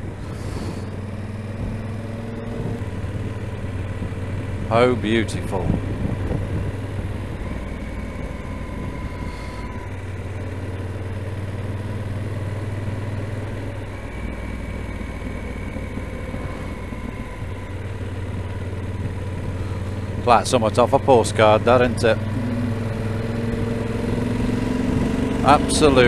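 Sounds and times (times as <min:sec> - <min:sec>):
motorcycle engine cruising: 0:00.0 - 0:26.0
wind and road noise: 0:00.0 - 0:26.0.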